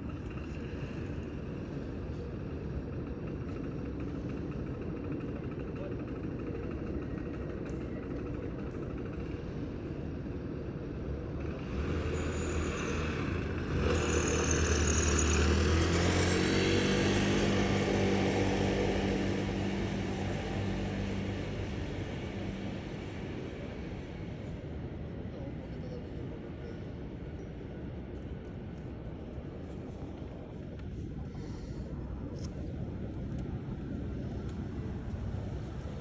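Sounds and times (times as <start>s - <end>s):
vehicle engine running close: 0.0s - 25.3s, 26.8s - 36.0s
road traffic noise: 0.0s - 36.0s.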